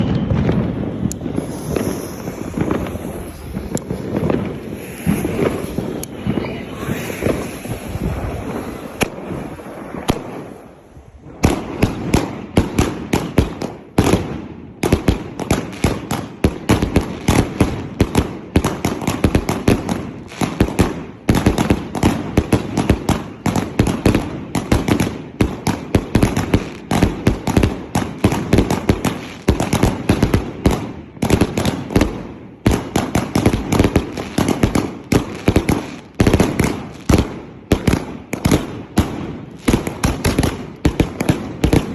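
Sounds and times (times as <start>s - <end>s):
fireworks bangs: 0.0s - 41.9s.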